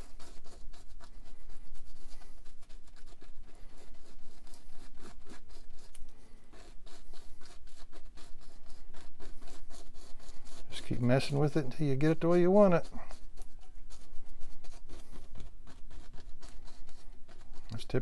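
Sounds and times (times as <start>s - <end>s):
scratchy brush strokes on canvas: 0.0s - 18.0s.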